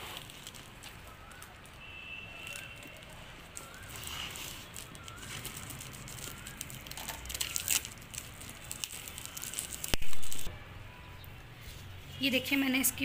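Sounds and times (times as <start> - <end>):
packing tape tearing: 0.0 - 10.5.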